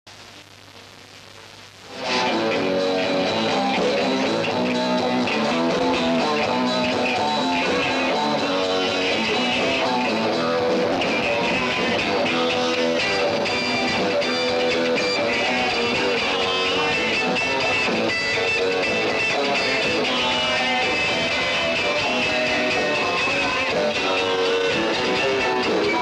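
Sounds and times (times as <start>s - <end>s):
rock music with guitar and drums: 1.9s - 26.0s.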